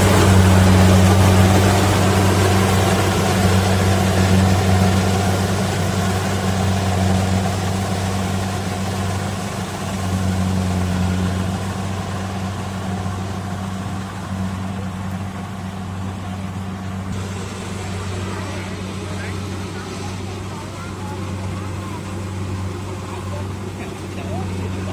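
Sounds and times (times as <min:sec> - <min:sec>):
combine harvester engine running: 0:00.0 - 0:24.9.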